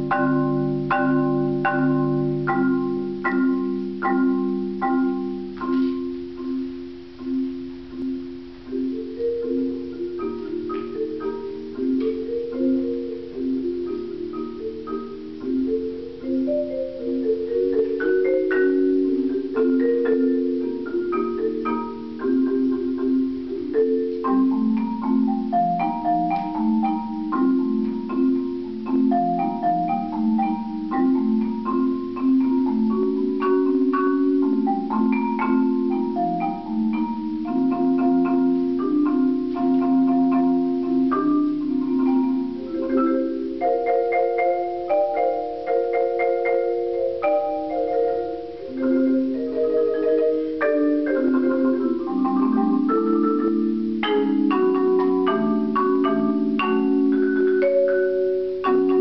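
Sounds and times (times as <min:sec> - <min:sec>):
marimba played with mallets: 0:00.0 - 0:59.0.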